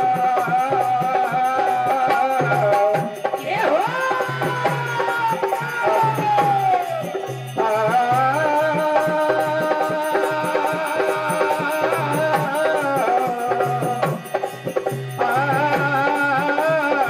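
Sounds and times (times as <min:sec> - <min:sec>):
dholak drum beat: 0:00.0 - 0:17.0
men singing: 0:00.0 - 0:17.0.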